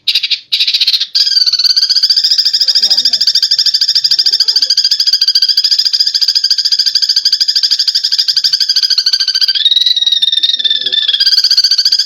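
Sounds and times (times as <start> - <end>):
sparrows chirping harshly: 0.0 - 12.0.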